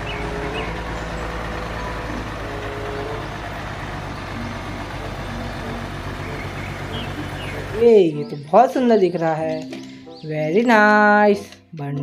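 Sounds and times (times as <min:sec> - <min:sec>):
truck engine running: 0:00.0 - 0:10.3.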